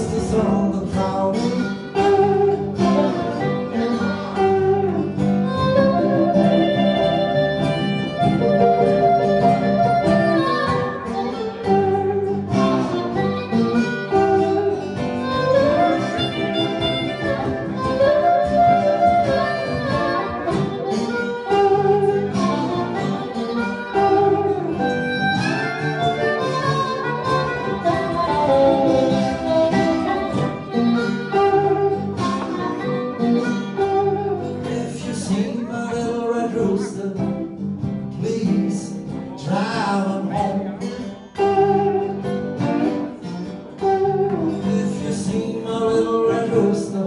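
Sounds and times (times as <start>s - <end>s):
blues harmonica bending notes: 0.0s - 47.0s
guitars strumming: 0.0s - 47.0s.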